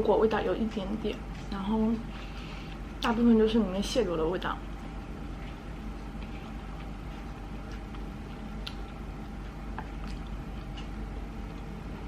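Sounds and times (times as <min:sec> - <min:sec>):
steady low hum: 0:00.0 - 0:12.0
quiet chewing: 0:00.7 - 0:03.2, 0:04.6 - 0:12.0.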